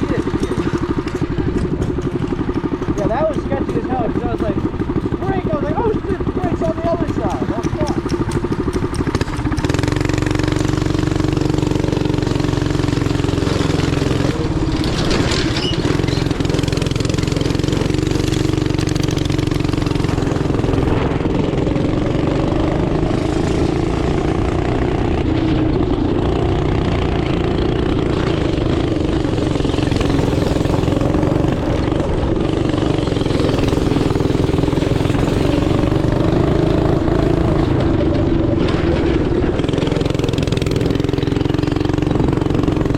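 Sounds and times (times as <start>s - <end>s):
small engine running: 0.0s - 42.9s.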